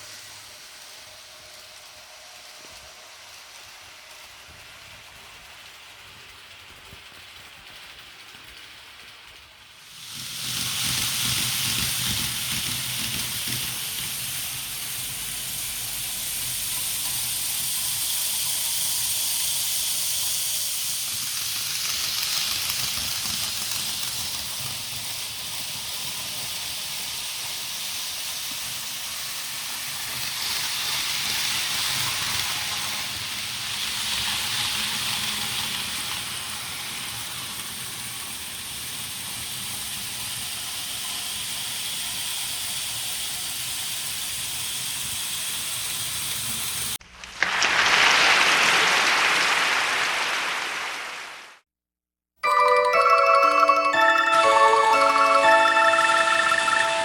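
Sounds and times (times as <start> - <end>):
electric train on rails: 0.0 - 51.5, 52.4 - 57.0.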